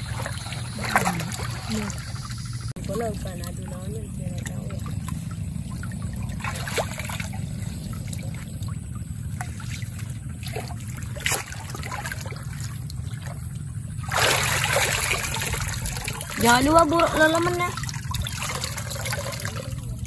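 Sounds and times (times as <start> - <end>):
rush of water: 0.0 - 20.0
shallow water trickling: 0.0 - 20.0
small drips: 0.0 - 20.0
steady low rumble: 0.0 - 20.0.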